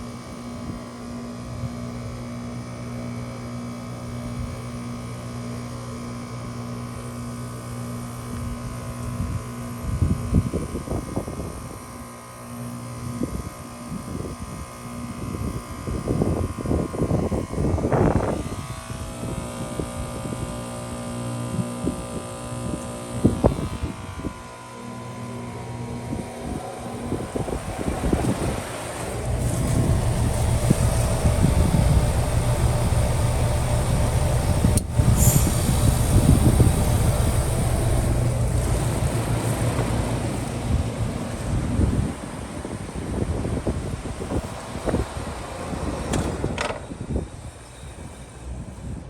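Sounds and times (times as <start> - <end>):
heat pump unit humming: 0.0 - 49.0.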